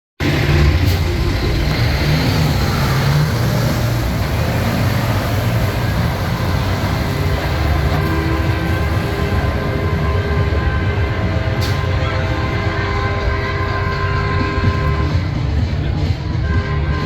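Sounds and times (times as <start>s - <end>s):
diesel truck engines rumbling: 0.2s - 17.0s.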